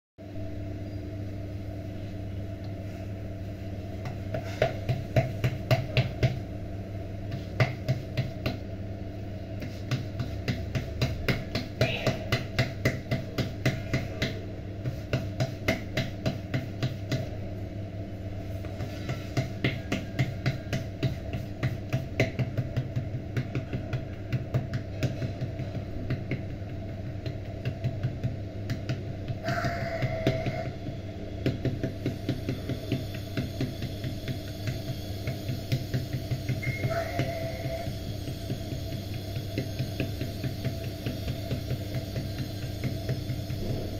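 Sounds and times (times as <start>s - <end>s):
steady low hum: 0.2s - 43.9s
hands patting dough: 3.5s - 17.6s, 18.3s - 43.9s.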